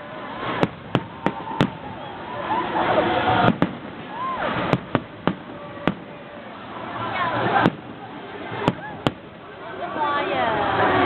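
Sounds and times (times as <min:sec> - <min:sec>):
crowd voices: 0:00.0 - 0:11.0
fireworks bangs: 0:00.0 - 0:11.0.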